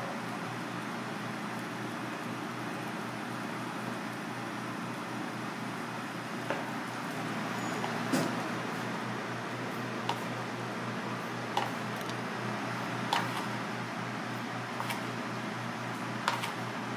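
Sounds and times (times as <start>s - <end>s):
background hum and hiss: 0.0s - 16.9s.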